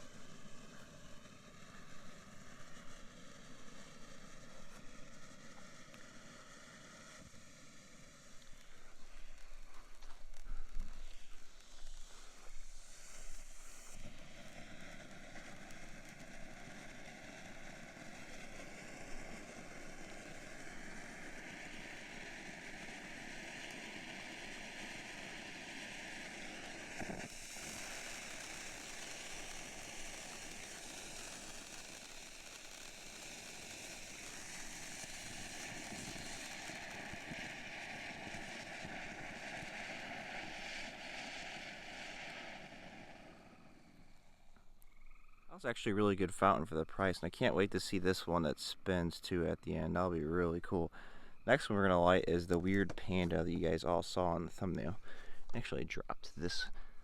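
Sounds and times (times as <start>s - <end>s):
firework fountain hissing: 0.0s - 57.0s.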